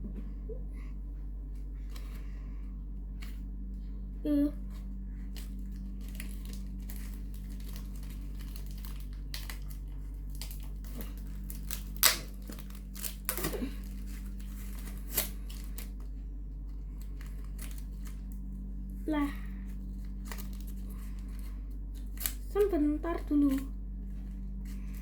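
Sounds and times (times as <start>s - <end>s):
steady low hum: 0.0s - 25.0s
wrapping crackles: 3.0s - 25.0s
parcel wrapping rustling: 4.6s - 25.0s.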